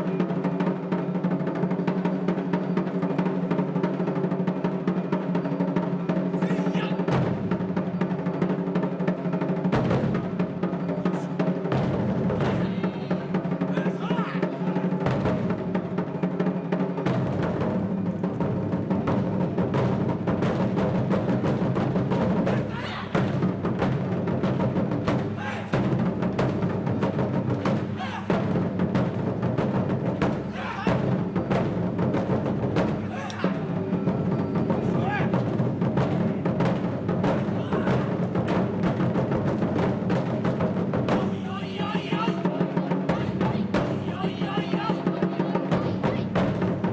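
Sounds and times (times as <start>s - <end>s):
drum ensemble drumming: 0.0s - 46.9s.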